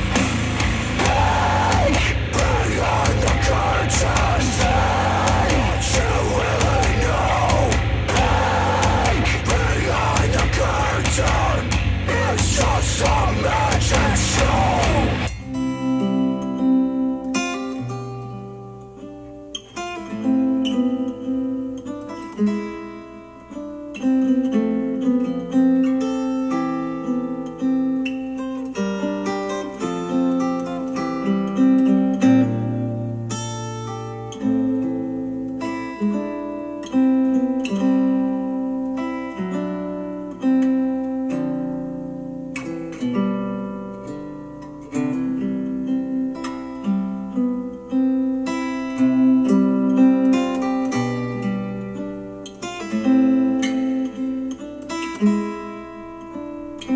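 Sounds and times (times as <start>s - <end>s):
acoustic guitar music: 0.0s - 56.9s.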